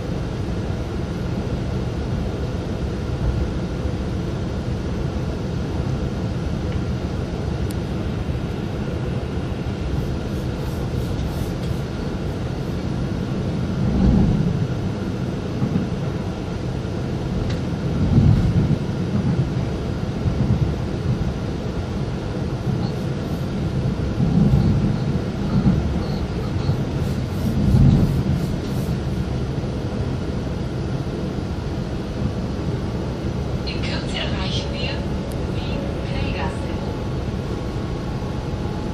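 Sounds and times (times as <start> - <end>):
heavier low rumbles: 0.0 - 38.9
train rumble inside carriage: 0.0 - 38.9.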